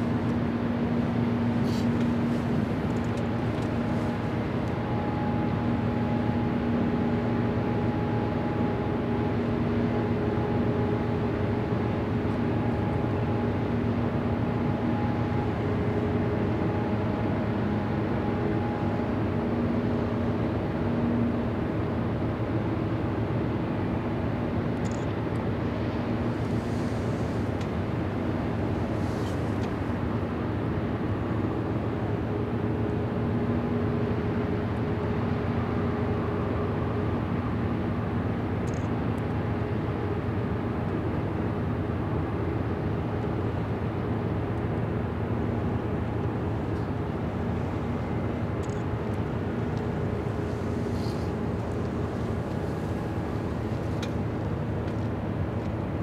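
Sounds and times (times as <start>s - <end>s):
ship engines droning: 0.0s - 56.0s.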